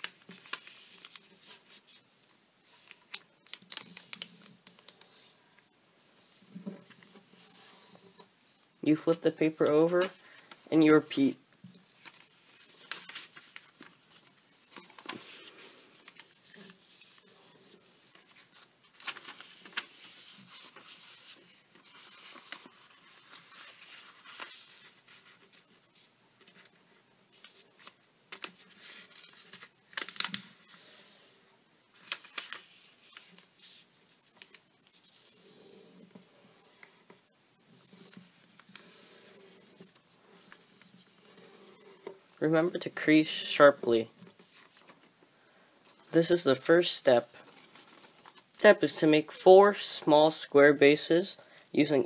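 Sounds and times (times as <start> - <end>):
paper crackling: 0.0 - 8.3, 8.9 - 31.3, 31.9 - 45.0, 47.4 - 48.9
paper rustling and crinkling: 0.0 - 45.2, 45.8 - 49.0.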